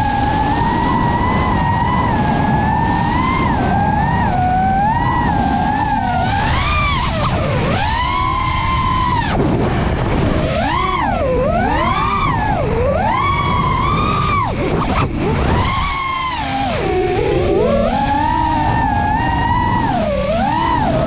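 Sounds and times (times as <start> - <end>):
drone motors whining: 0.0 - 21.0
propeller and wind rush: 0.0 - 21.0.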